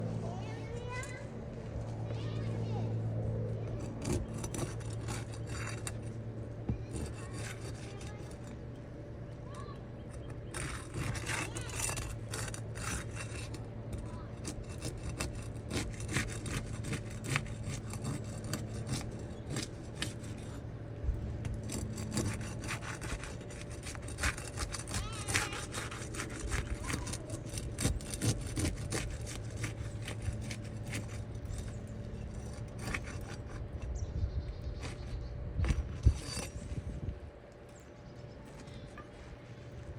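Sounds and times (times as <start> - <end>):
steady low hum: 0.0 - 39.9
scraping and rubbing: 3.5 - 39.9.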